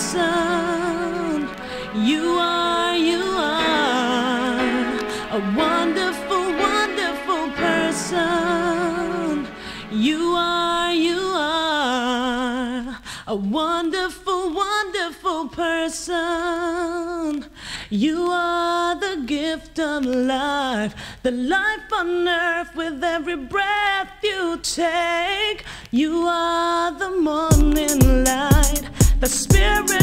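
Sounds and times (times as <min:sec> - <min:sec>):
person singing with vibrato: 0:00.0 - 0:30.0.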